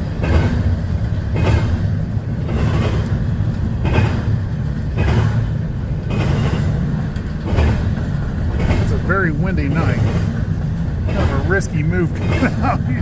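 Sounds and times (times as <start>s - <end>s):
freight train rumble: 0.0s - 13.0s
regular knocking of train wheels: 0.0s - 13.0s.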